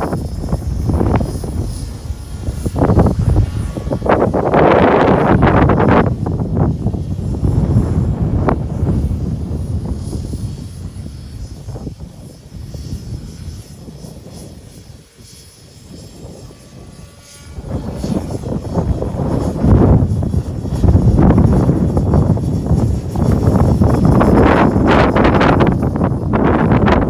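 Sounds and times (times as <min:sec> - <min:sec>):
model helicopter rotor and engine: 0:00.0 - 0:27.0
wind rumble on microphone: 0:00.0 - 0:27.0.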